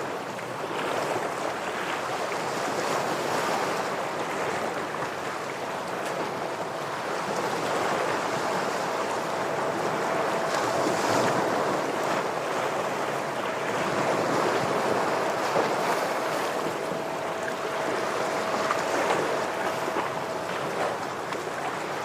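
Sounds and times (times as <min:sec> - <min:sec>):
waves breaking against rocks: 0:00.6 - 0:22.0
faint steady hum: 0:01.3 - 0:22.0.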